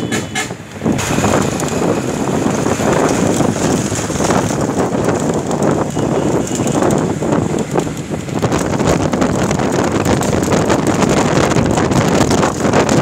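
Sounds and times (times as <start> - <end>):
vehicle rumble: 0.0 - 13.0
wind buffeting microphone: 0.1 - 13.0.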